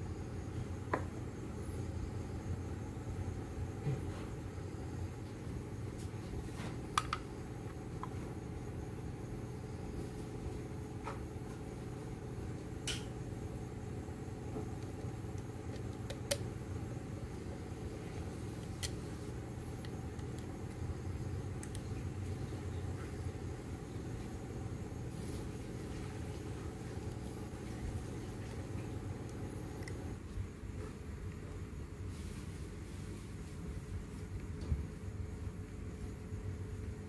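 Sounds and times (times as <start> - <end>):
low background hum: 0.0 - 37.0.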